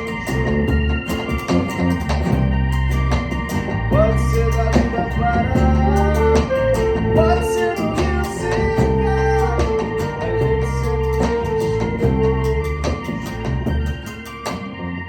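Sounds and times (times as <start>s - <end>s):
steady drum beat: 0.0s - 14.4s
bass: 0.0s - 15.0s
guitar: 0.0s - 15.0s
organ-like keyboard: 0.0s - 15.0s.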